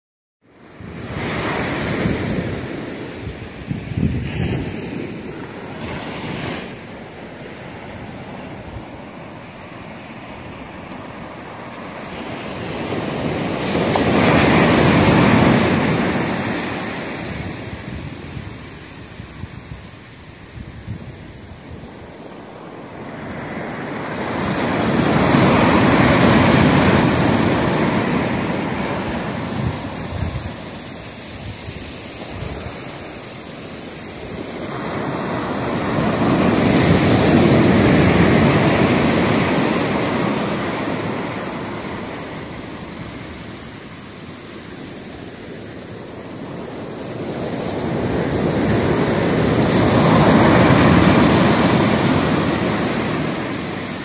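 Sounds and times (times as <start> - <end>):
ocean surf breaking on beach: 0.5 - 54.0.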